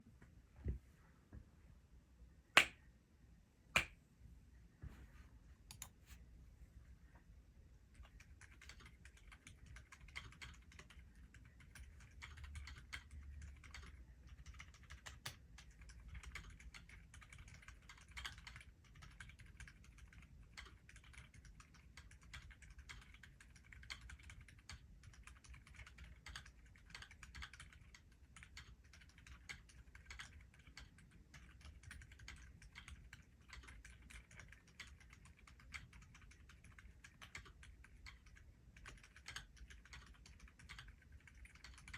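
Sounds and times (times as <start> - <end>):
fast typing on mechanical keyboard: 7.9 - 41.9.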